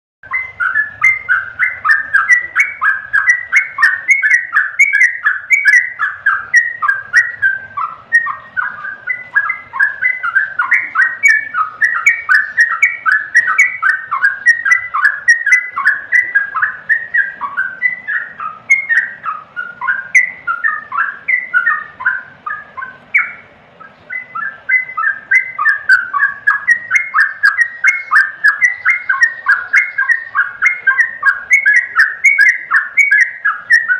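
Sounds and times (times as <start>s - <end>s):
bird singing bubbly notes: 0.2s - 33.9s.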